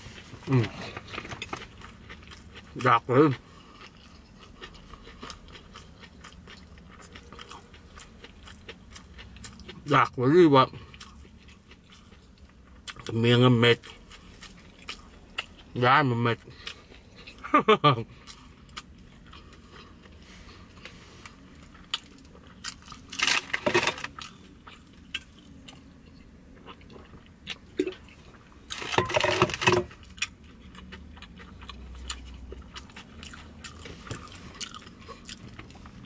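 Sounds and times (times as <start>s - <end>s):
person chewing crusty bread: 0.0s - 36.0s.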